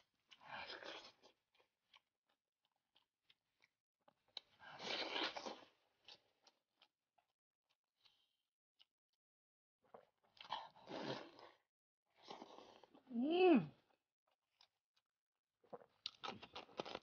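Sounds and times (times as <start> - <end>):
wet chewing and crunching: 0.0 - 9.2, 9.8 - 13.1, 13.9 - 17.0.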